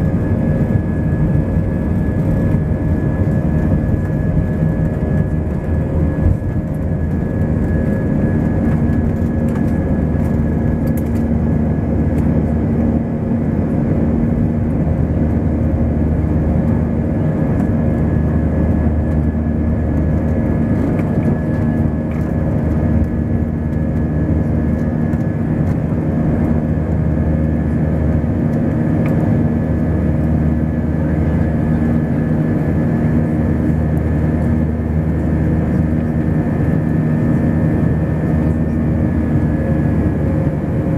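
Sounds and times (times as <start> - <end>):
jet engines roaring in cabin: 0.0 - 40.9.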